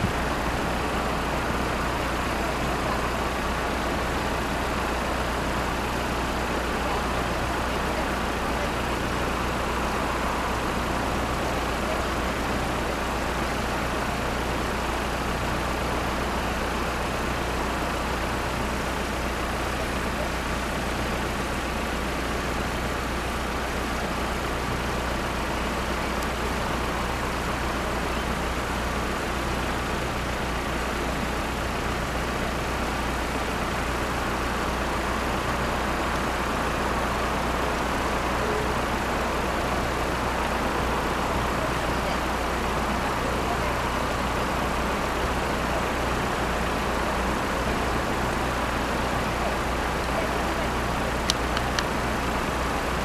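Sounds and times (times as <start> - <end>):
engines idling hum: 0.0 - 53.0
road traffic noise: 0.0 - 53.0.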